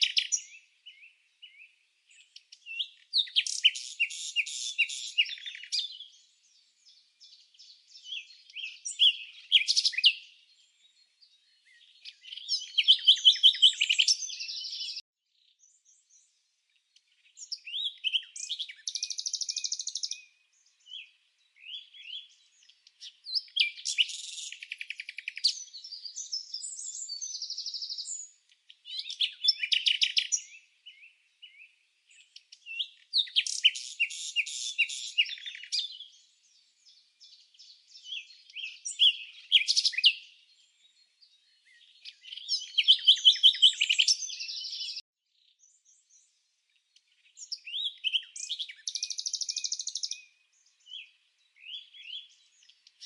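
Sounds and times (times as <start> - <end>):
songbird chirping and trilling: 0.0 - 53.0.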